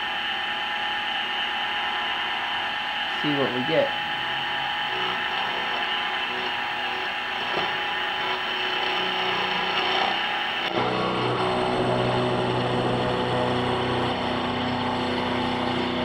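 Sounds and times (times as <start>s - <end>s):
milling machine motor whining: 0.0s - 16.0s.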